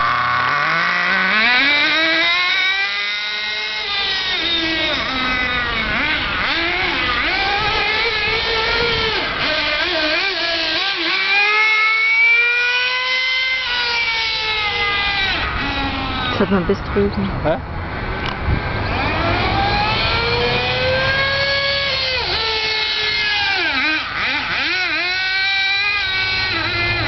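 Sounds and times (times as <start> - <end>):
model car engine revving: 0.0 - 16.8, 18.2 - 27.0.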